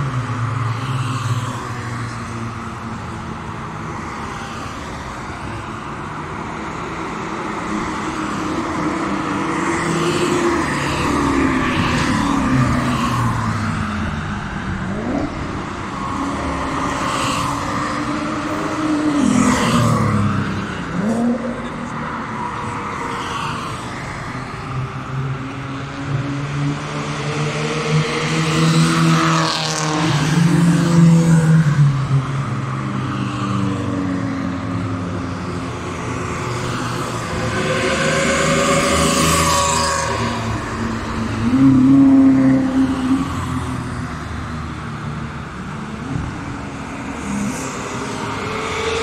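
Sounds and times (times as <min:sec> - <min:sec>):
sports cars revving past: 0:06.8 - 0:49.0.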